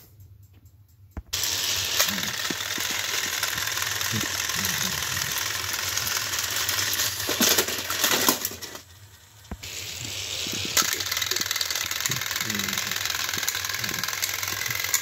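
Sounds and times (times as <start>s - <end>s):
toy train motors whirring: 1.3s - 15.0s.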